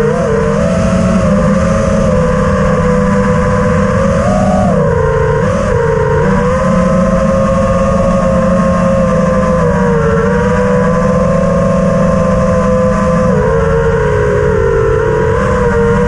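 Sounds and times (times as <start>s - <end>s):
drone motors buzzing whine: 0.0s - 16.0s
wind rumble: 0.0s - 16.0s.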